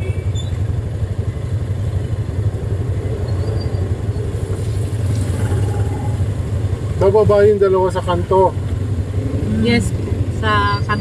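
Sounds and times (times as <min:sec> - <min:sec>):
vehicle engines in slow traffic: 0:00.0 - 0:11.0.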